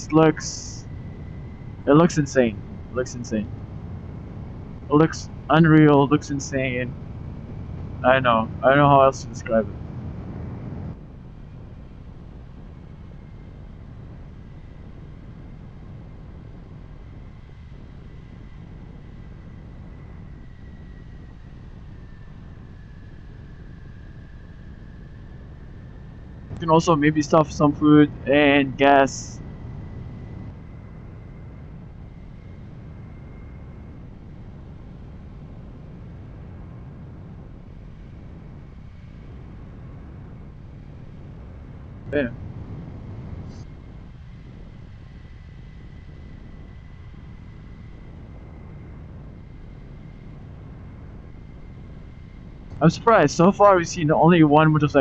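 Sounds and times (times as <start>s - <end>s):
faint high whine: 0.0s - 55.0s
wind rumble on microphone: 0.0s - 55.0s.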